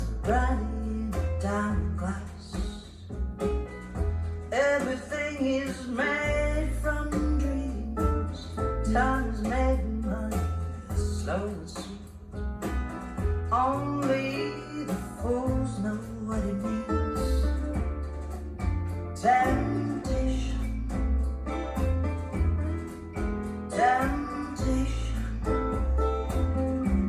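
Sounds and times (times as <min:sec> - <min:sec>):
person singing: 0:00.0 - 0:03.1, 0:04.4 - 0:12.2, 0:13.5 - 0:18.4, 0:19.1 - 0:21.8, 0:23.2 - 0:27.0
bass line: 0:00.0 - 0:27.0
guitar: 0:00.0 - 0:27.0.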